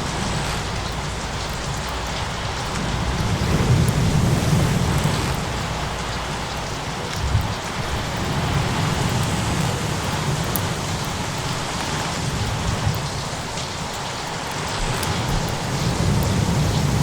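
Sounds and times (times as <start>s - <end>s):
faint crackles: 0.0s - 17.0s
low continuous rumble: 0.0s - 17.0s
steady rain falling: 0.0s - 17.0s.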